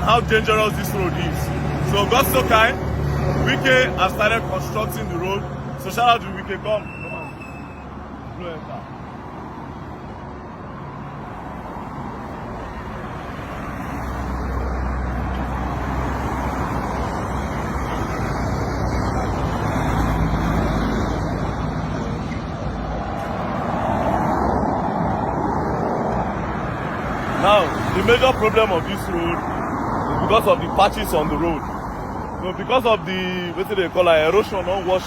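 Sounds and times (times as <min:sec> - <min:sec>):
vehicles passing on road: 0:00.0 - 0:35.0.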